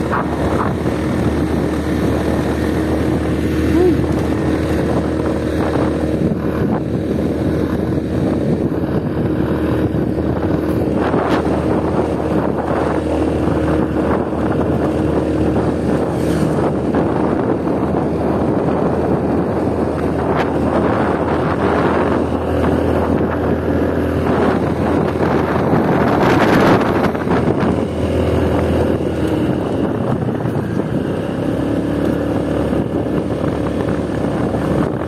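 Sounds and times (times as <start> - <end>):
scooter engine running: 0.0 - 35.0
wind buffeting microphone: 0.0 - 35.0.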